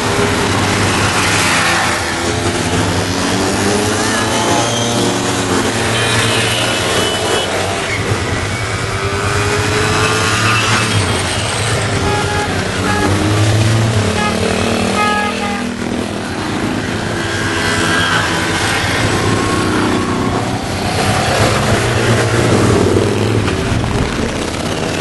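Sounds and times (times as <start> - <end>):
scooters and motorcycles riding past: 0.0 - 25.0.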